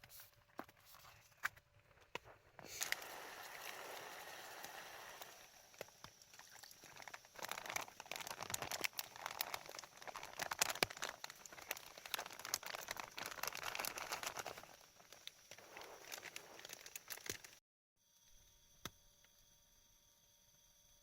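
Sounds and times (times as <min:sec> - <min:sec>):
crinkling and rustling: 0:00.0 - 0:17.6.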